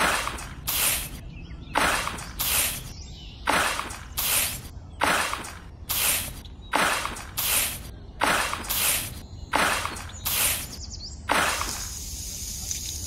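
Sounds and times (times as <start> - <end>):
toy shovel scooping sand: 0.0 - 1.2, 1.8 - 2.9, 3.5 - 13.0.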